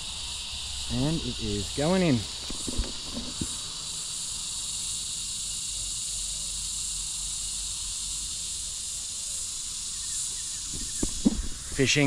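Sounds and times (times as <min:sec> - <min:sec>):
insects chorus shrill hiss: 0:00.0 - 0:12.0.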